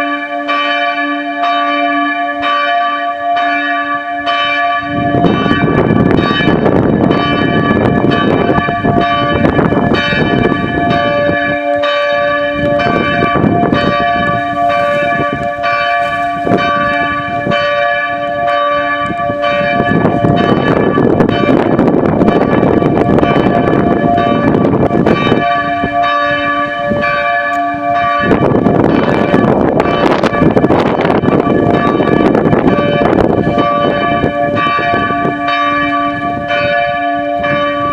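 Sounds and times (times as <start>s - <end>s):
church bells ringing in a peal: 0.0s - 37.9s.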